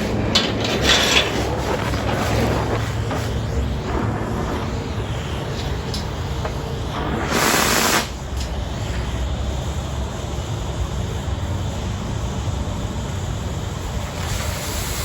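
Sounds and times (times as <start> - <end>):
cutting torch roaring hiss: 0.0 - 15.0.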